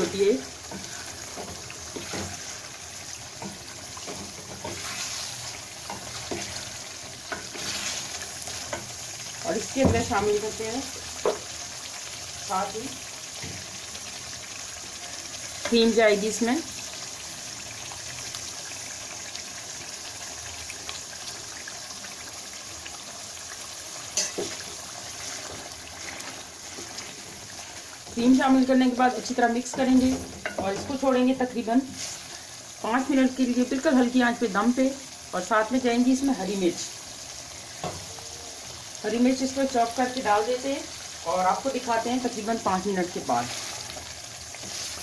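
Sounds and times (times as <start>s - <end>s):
gravy sizzling and bubbling: 0.0s - 45.0s.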